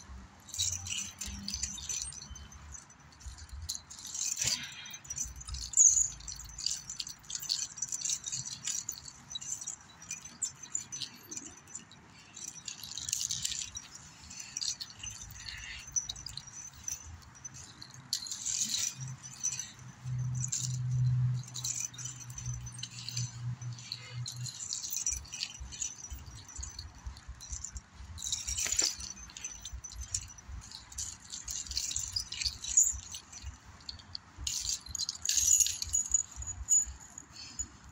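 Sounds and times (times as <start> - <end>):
metal chain jangling: 0.0 - 37.9.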